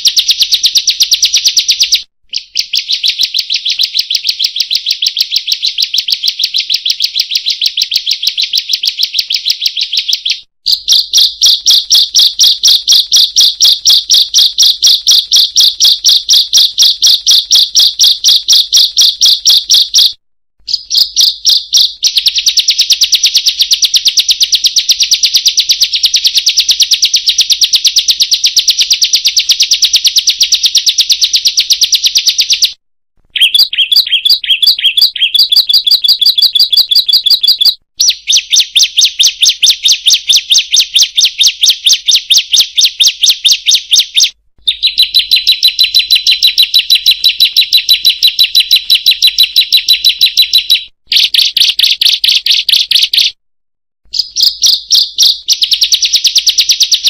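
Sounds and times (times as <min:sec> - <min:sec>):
bird song of high notes: 0:00.0 - 0:32.7, 0:33.3 - 0:53.4, 0:54.1 - 0:56.1.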